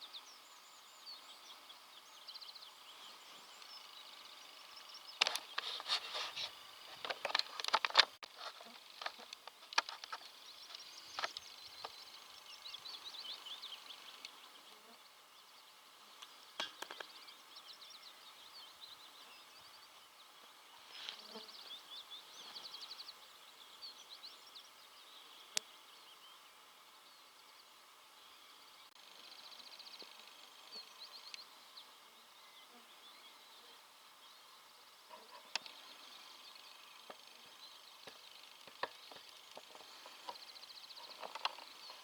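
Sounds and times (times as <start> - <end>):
faint outdoor hiss: 0.0 - 42.0
songbirds singing: 0.0 - 42.0.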